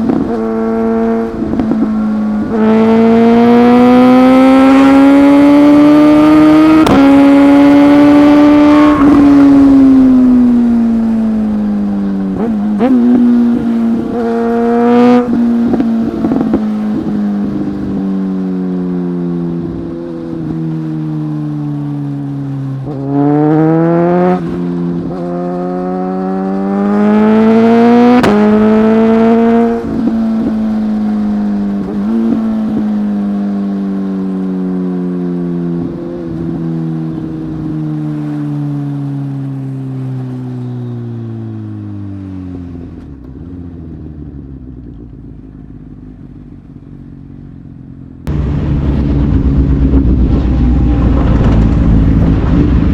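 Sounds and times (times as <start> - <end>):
motorcycle engine accelerating hard: 0.0 - 52.9.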